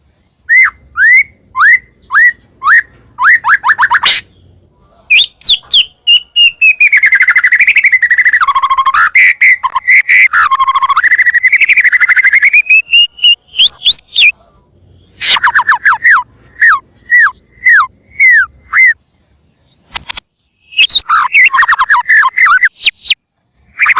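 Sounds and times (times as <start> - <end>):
songbird singing whistles and trills: 0.4 - 14.4, 15.0 - 23.9.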